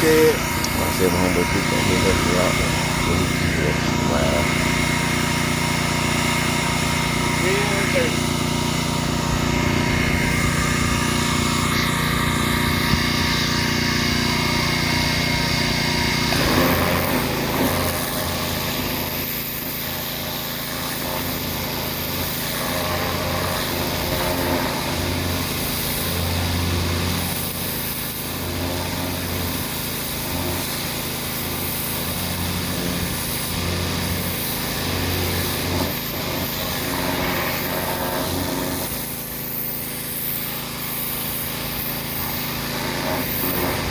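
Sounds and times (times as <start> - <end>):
pressure washer engine running: 0.0 - 43.9.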